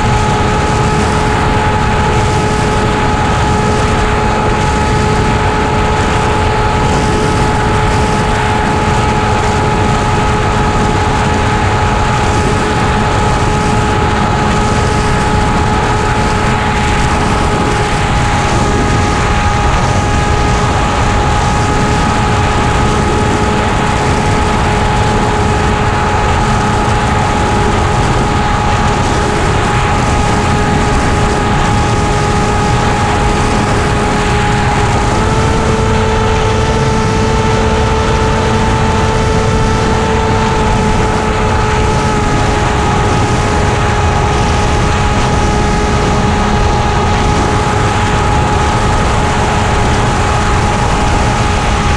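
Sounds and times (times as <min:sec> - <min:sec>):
model airplane motor humming: 0:00.0 - 0:51.9
wind rush on microphone: 0:00.0 - 0:51.9.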